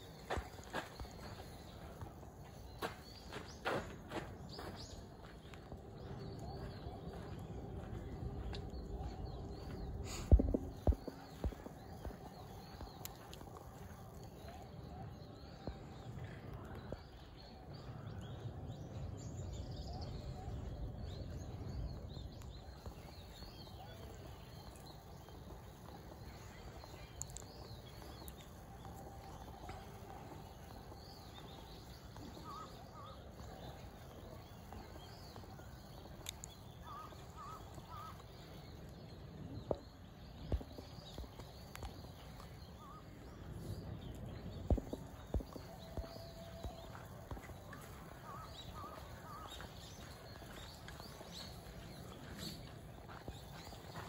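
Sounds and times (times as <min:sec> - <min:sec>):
faint bird chirps: 0:00.0 - 0:54.0.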